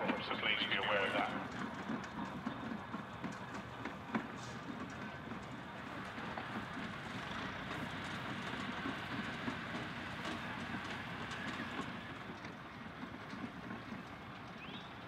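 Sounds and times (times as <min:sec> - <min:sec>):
steam engines mechanical clatter: 0:00.0 - 0:15.0.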